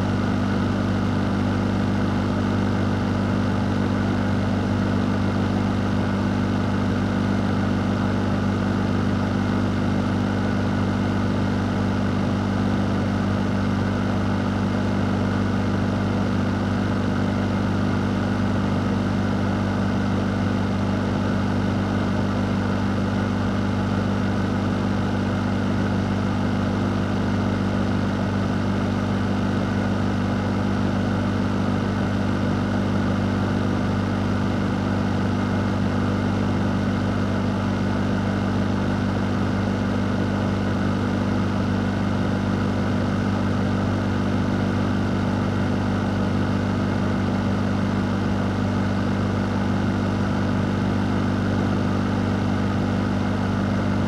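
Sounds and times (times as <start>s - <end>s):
fan running: 0.0s - 54.0s.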